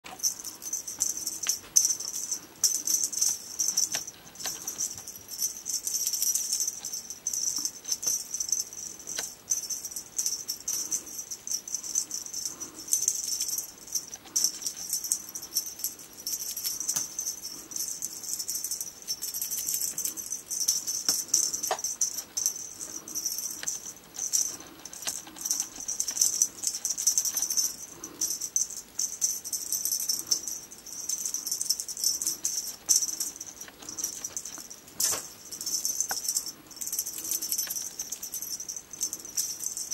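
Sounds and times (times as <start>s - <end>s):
bell toy jingling: 0.1s - 39.9s.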